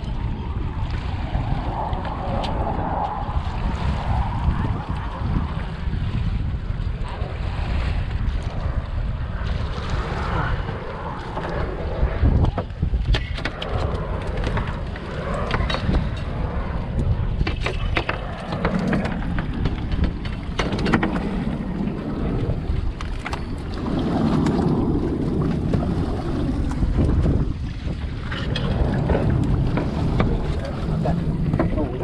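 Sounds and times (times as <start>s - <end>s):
strong wind buffeting microphone: 0.0s - 32.0s.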